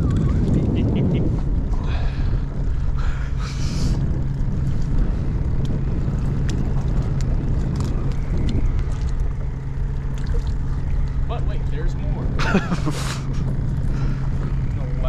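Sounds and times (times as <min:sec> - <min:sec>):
outboard motor idling: 0:00.0 - 0:15.0
wind buffeting microphone: 0:00.0 - 0:15.0.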